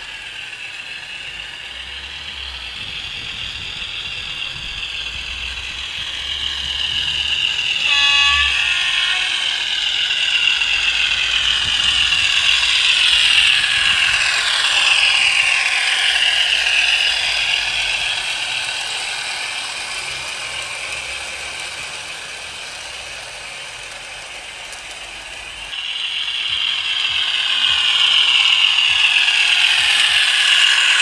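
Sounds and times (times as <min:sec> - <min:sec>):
model diesel engine sound: 0:00.0 - 0:31.0
model train rattling on track: 0:00.0 - 0:31.0.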